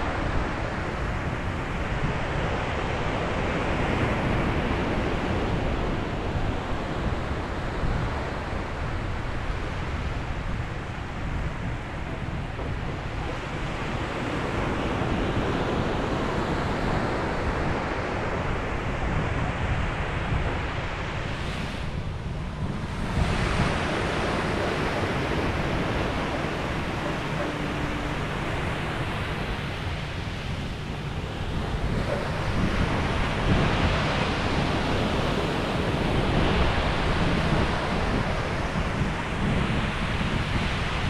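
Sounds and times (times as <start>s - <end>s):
ocean waves breaking on beach: 0.0s - 41.0s
wind buffeting microphone: 0.0s - 41.0s.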